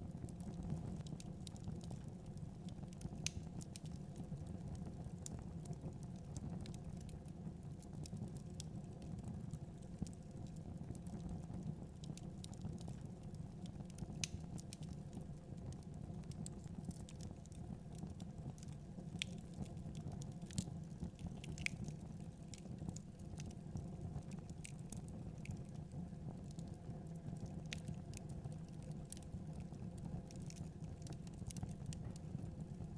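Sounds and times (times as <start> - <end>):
low rumble of fire: 0.0 - 32.9
wood fire crackling: 0.0 - 32.9.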